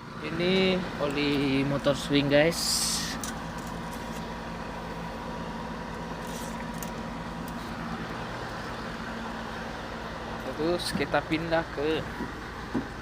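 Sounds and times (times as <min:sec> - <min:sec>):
engine humming with whine: 0:00.0 - 0:13.0.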